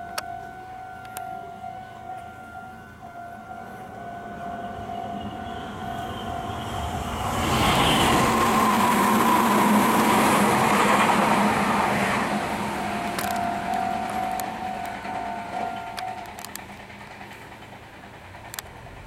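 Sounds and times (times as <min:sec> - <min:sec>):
level crossing alarm ringing: 0:00.0 - 0:16.8
electric train passing: 0:00.0 - 0:19.0.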